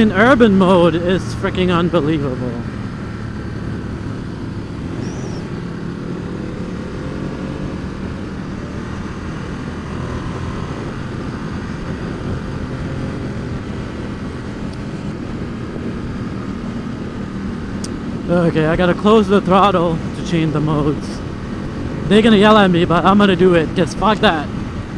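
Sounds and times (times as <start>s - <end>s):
motorcycle engine running: 0.0s - 24.9s
wind and road noise: 0.0s - 24.9s.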